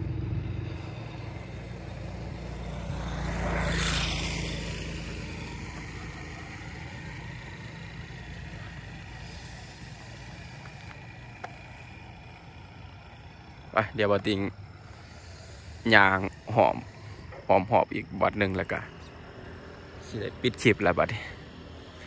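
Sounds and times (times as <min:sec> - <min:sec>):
road vehicle passing by: 0:00.0 - 0:22.0.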